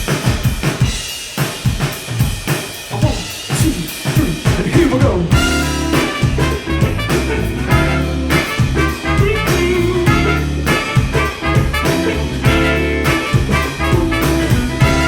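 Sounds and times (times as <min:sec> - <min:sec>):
drum kit: 0:00.0 - 0:15.0
live band playing swing blues: 0:02.9 - 0:15.0.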